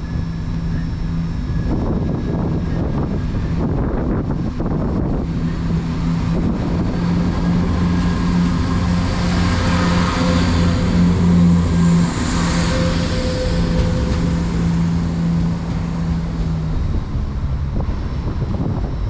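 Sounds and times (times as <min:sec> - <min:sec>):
train engine humming: 0:00.0 - 0:19.0
wind on microphone: 0:00.0 - 0:19.0.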